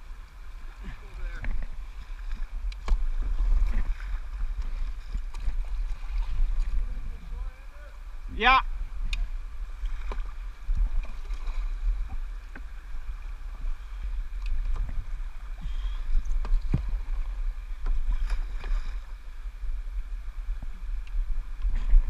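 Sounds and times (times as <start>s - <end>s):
kayak paddle splashing water: 0.0s - 22.0s
wind rumble on microphone: 0.0s - 22.0s.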